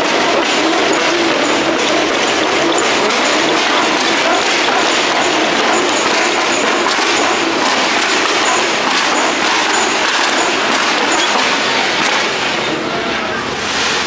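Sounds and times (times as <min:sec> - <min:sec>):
crowd chattering: 0:00.0 - 0:14.0.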